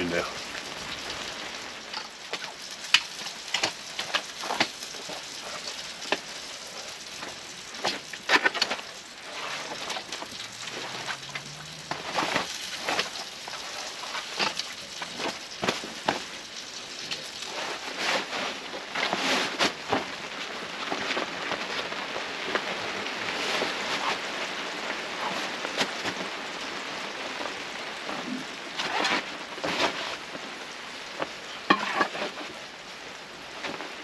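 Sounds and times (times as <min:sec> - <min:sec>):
rain hissing: 0:00.0 - 0:34.0.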